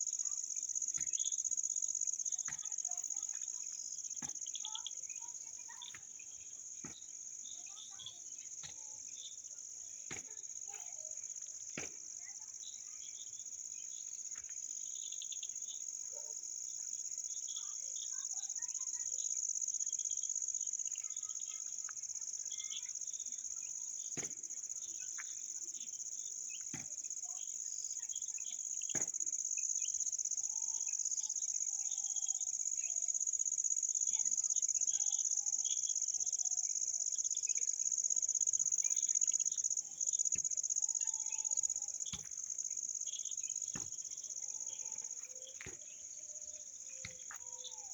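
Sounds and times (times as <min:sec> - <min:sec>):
faint scattered chirps: 0:00.0 - 0:47.9
high-pitched insect chorus: 0:00.0 - 0:47.9.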